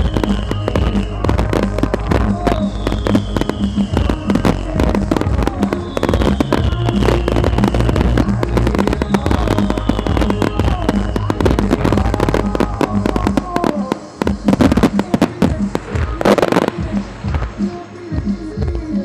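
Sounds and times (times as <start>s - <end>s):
fireworks bangs and crackles: 0.0s - 19.0s
music with heavy bass beat: 0.0s - 19.0s.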